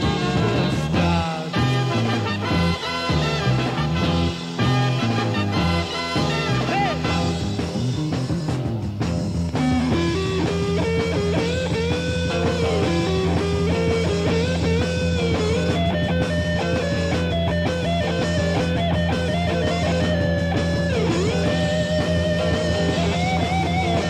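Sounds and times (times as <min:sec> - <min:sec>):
psychedelic rock instrumental: 0:00.0 - 0:24.0
wavering guitar melody: 0:00.0 - 0:24.0.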